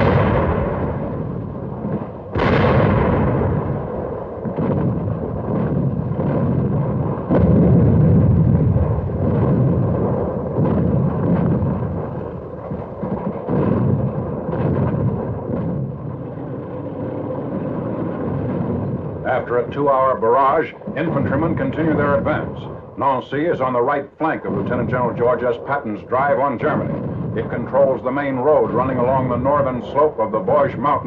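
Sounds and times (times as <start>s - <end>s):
heavy rumble: 0.0s - 31.0s
tank gunfire blasts: 0.0s - 31.0s.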